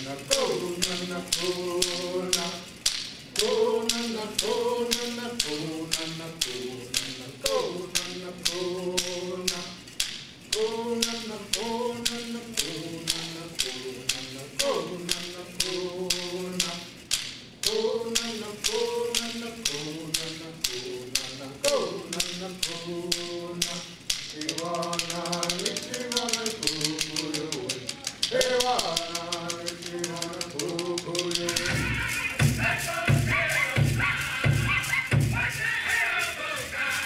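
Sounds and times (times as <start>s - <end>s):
person singing: 0.0s - 9.9s, 10.5s - 17.0s, 17.6s - 37.0s
hand percussion beat: 0.0s - 37.0s.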